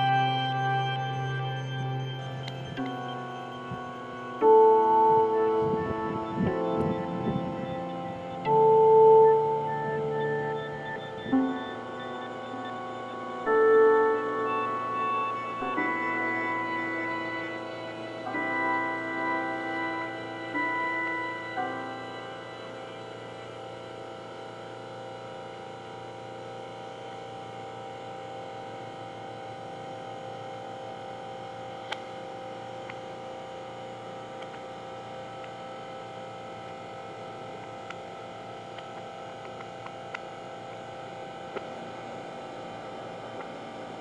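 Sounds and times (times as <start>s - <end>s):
steady multi-tone hum: 0.0s - 44.0s.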